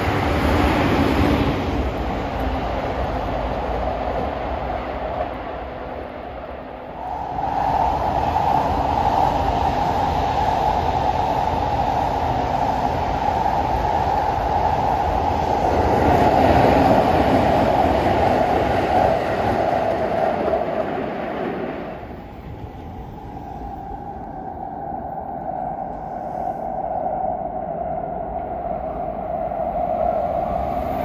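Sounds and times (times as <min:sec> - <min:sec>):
electric train rumbling past: 0:00.0 - 0:31.0.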